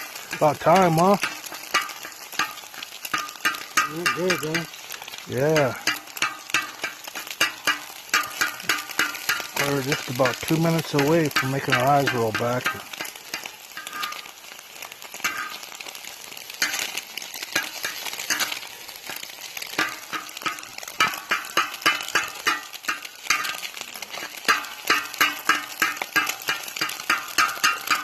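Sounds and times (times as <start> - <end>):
food sizzling on hot metal: 0.0 - 28.0.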